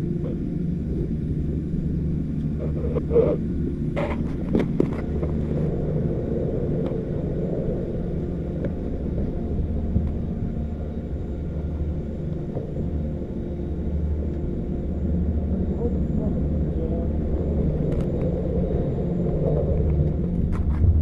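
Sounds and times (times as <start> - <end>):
chairlift machinery hum and rumble: 0.0 - 21.0.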